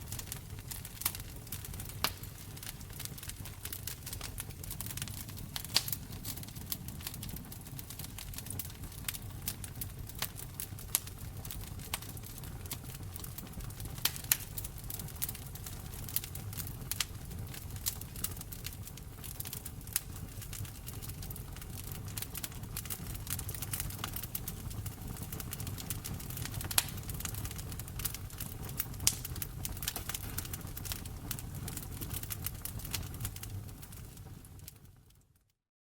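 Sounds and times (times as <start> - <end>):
wood fire crackling: 0.0 - 35.4.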